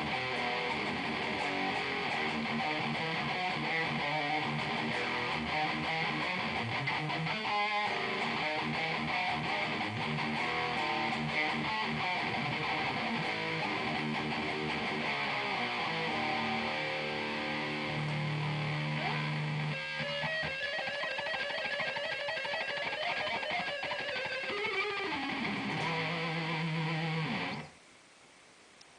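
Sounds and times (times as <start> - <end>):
distorted electric guitar riffs: 0.0 - 27.8.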